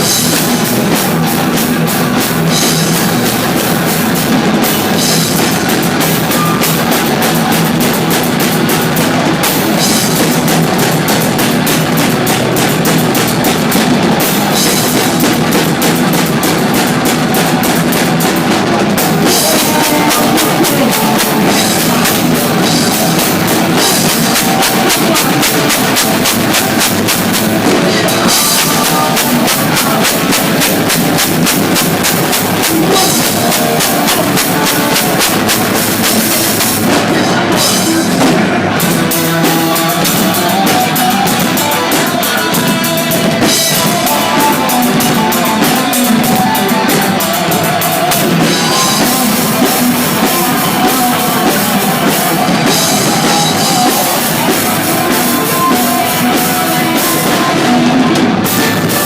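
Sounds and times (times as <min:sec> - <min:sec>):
loud rock music: 0:00.0 - 0:59.0.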